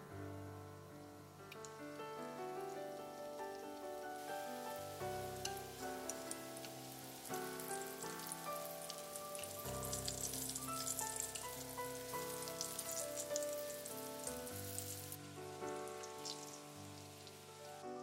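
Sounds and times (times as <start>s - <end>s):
soft background music: 0.0s - 18.0s
food frying in hot oil: 1.5s - 18.0s.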